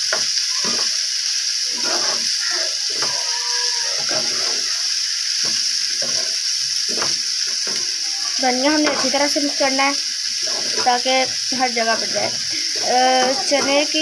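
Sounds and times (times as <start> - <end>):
food sizzling in a pan: 0.0 - 14.0
spatula scraping a pan: 0.0 - 14.0.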